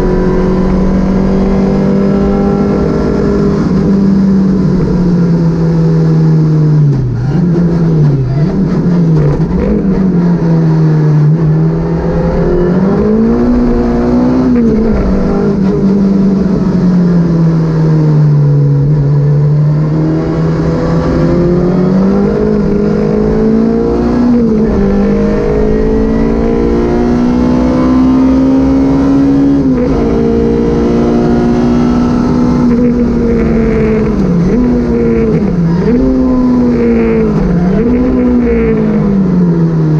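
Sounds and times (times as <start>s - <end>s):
rally car engine accelerating: 0.0s - 39.9s.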